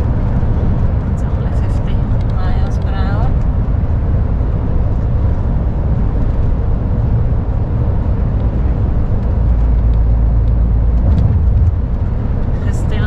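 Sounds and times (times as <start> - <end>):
lorry rumble from inside cab: 0.0 - 13.0.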